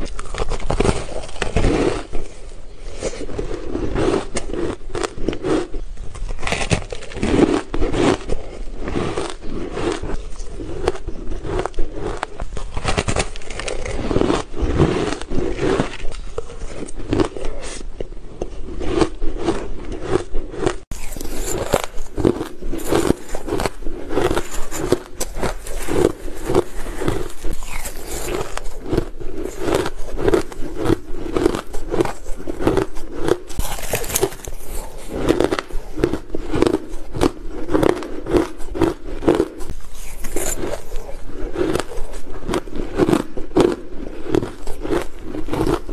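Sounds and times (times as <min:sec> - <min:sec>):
shaved ice crunching when chewed: 0:00.0 - 0:45.9.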